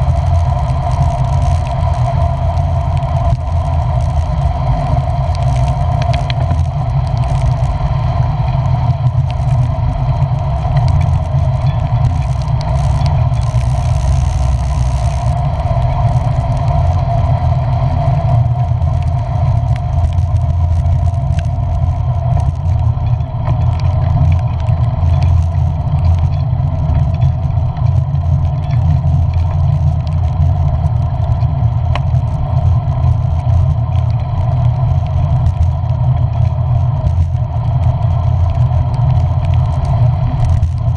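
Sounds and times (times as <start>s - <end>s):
engine and road rumble: 0.0s - 40.9s.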